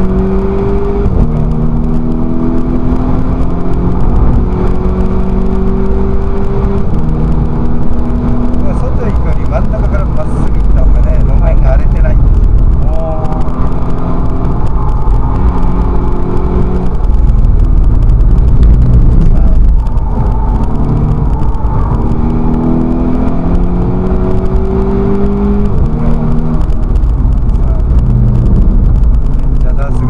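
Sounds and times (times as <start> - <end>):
race car engine accelerating: 0.0 - 30.0
road rumble: 0.0 - 30.0.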